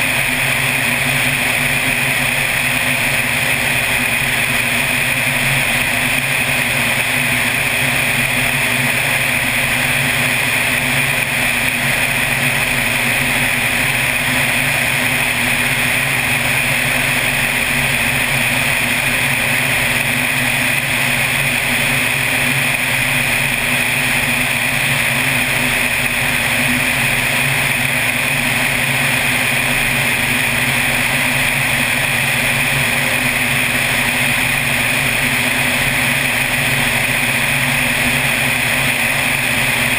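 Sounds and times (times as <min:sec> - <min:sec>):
plane engine droning: 0:00.0 - 0:39.9.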